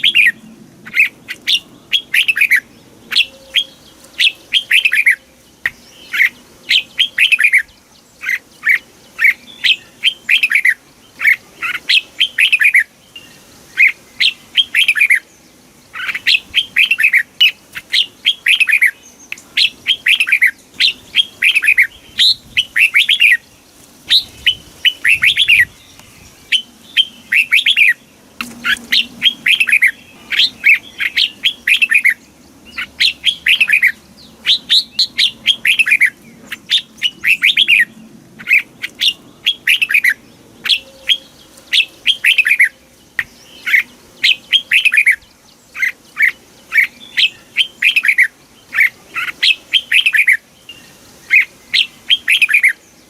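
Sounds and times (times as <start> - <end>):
bulbul singing: 0.0 - 53.0.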